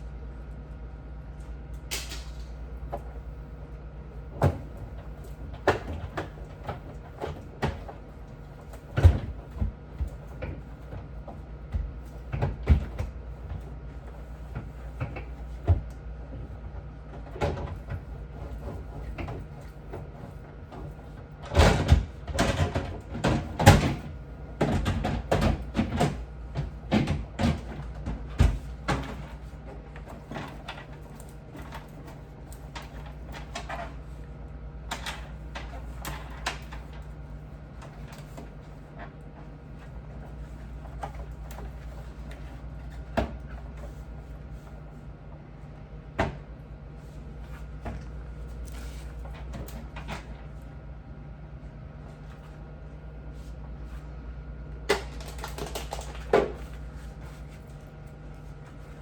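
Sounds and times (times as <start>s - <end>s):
refrigerator shelves and drawers clattering: 1.9s - 45.1s, 46.1s - 50.8s, 54.8s - 59.0s.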